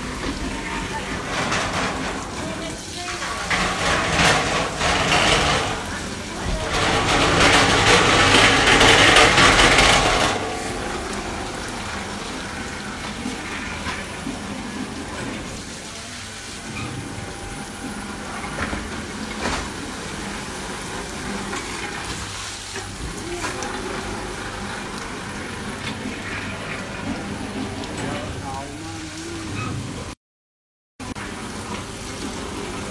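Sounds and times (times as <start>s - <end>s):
carpet-washing machine spraying water: 0.0s - 30.2s, 31.0s - 32.9s.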